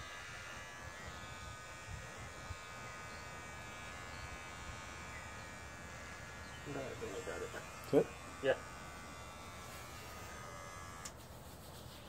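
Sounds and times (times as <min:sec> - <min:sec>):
electric hair clippers buzzing: 0:00.0 - 0:11.4.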